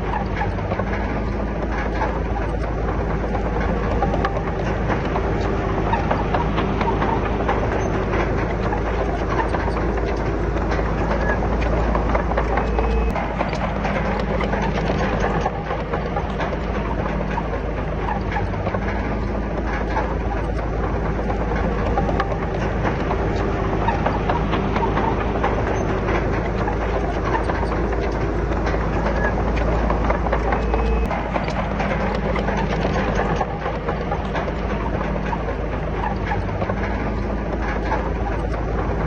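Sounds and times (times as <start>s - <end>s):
bulldozer diesel engine running: 0.0s - 39.0s
steel tracks clanking: 0.0s - 39.0s.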